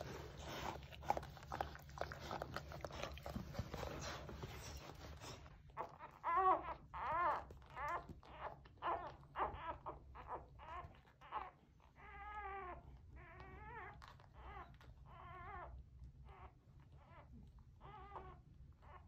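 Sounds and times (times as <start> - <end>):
puppies squeaking and crying: 0.0 - 19.0.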